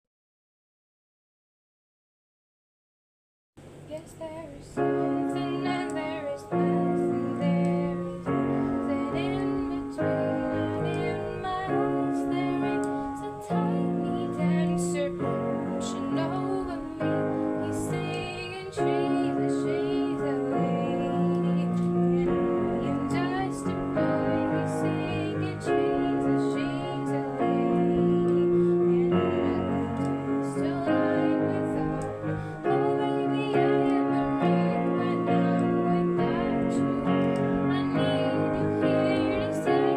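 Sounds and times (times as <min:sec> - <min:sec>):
slow melody over sustained chords: 0:04.7 - 0:39.9.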